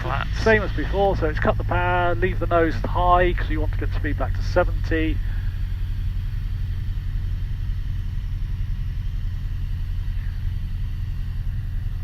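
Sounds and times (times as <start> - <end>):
aircraft engine droning in cockpit: 0.0 - 12.0.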